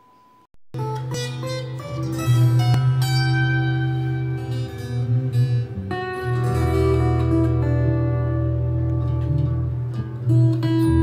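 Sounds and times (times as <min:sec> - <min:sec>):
plucked-string music with heavy bass: 0:00.8 - 0:11.0.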